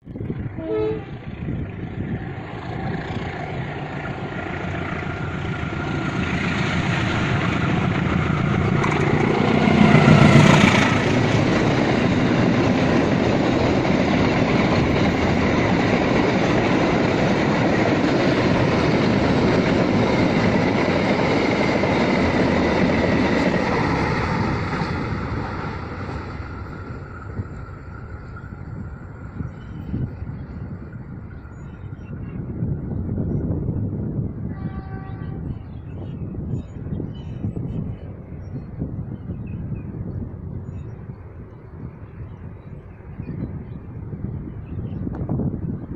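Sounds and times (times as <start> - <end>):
diesel locomotive passing: 0.0 - 45.9
train wagons rolling past: 0.2 - 45.9.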